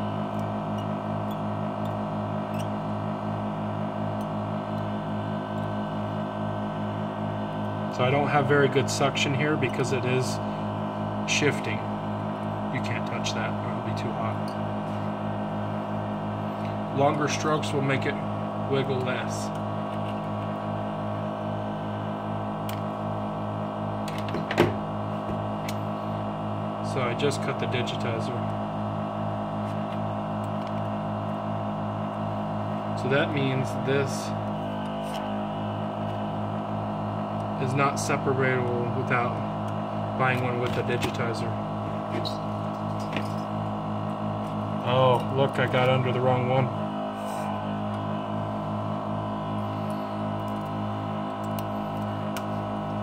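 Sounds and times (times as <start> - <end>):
vacuum pump pulsing hum: 0.0 - 53.0.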